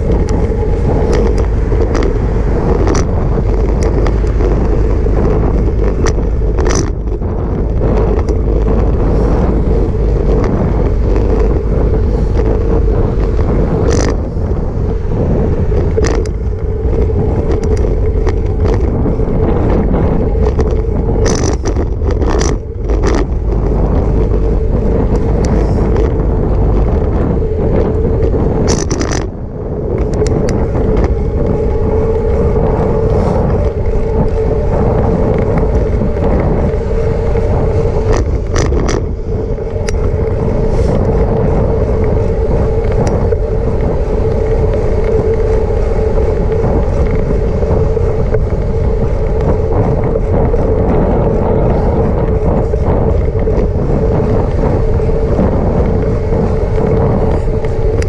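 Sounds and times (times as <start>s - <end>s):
steady hum: 0.0s - 58.0s
wind buffeting microphone: 0.0s - 58.0s.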